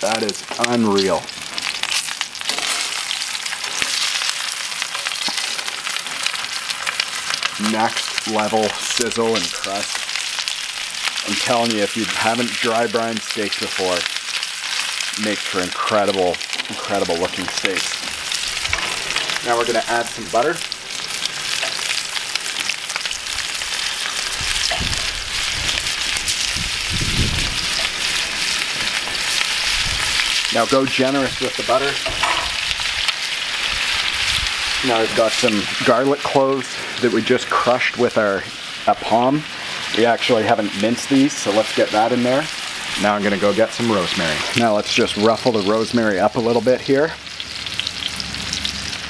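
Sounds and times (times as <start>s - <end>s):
steak sizzling in a skillet: 0.0s - 49.0s.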